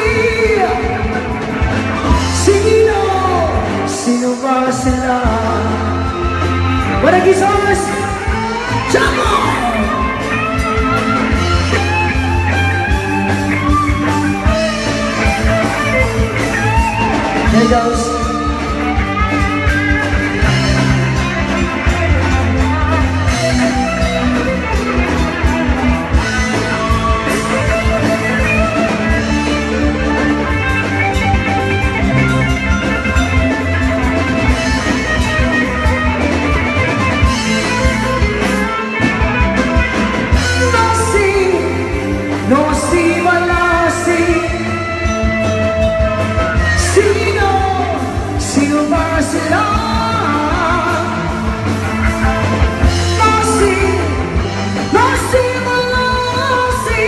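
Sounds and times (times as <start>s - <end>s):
bass guitar: 0.0s - 57.0s
electric guitar lead with bent notes: 0.0s - 57.0s.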